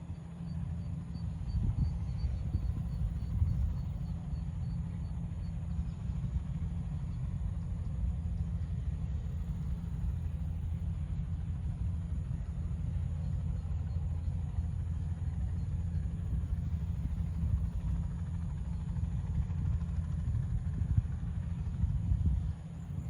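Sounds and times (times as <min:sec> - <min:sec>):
helicopter rumble: 0:00.0 - 0:23.0.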